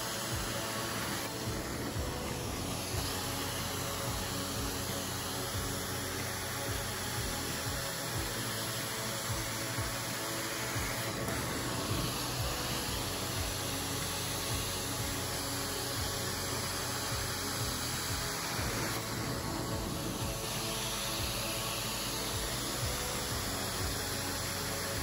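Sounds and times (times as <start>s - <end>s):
background music with a beat: 0.0s - 25.0s
carpet extraction wand hissing: 0.0s - 25.0s.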